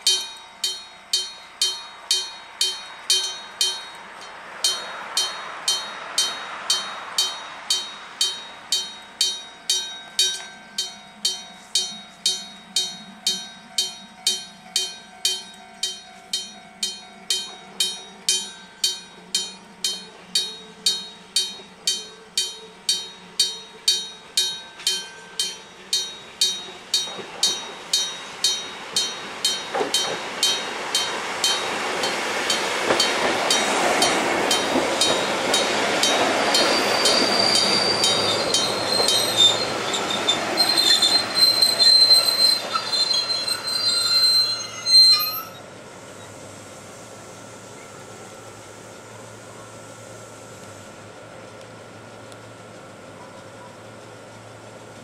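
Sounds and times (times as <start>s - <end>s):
level crossing bell ringing: 0.0s - 44.6s
electric train running: 0.0s - 55.0s.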